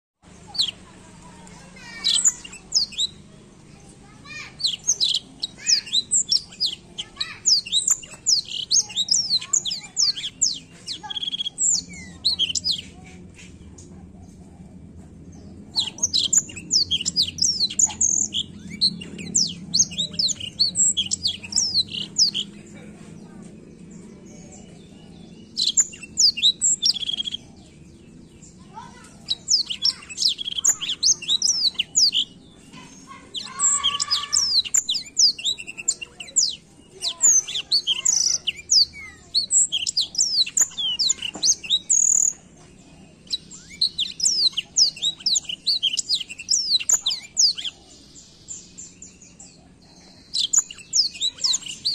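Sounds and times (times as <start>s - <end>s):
canary singing chirps and trills: 0.2s - 51.9s.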